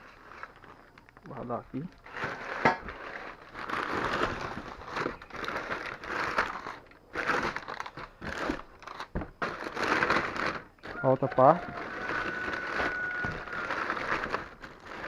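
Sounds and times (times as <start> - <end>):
paper crumpling and rustling: 0.0 - 15.0.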